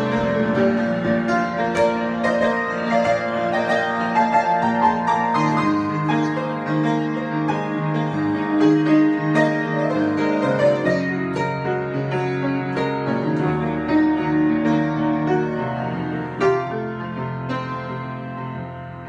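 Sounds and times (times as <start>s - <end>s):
solo piano improvisation: 0.0s - 19.0s.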